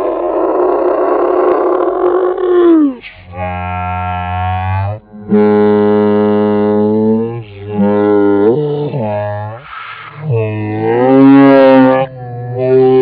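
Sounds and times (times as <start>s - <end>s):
girl droning low notes: 1.9s - 13.0s.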